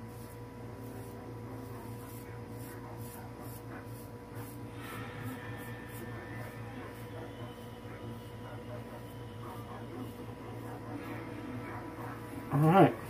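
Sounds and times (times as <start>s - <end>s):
razor scraping stubble: 0.0s - 13.0s
steady low hum: 0.0s - 13.0s.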